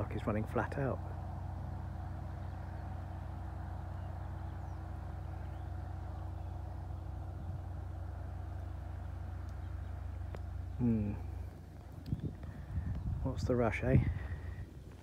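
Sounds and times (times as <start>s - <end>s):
motor boat engine droning: 0.0s - 13.0s.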